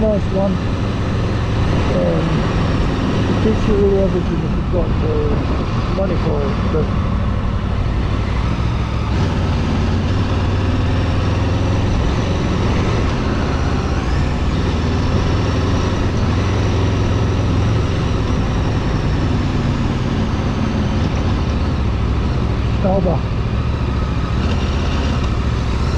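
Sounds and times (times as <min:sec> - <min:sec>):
vehicle engine and road noise: 0:00.0 - 0:25.9.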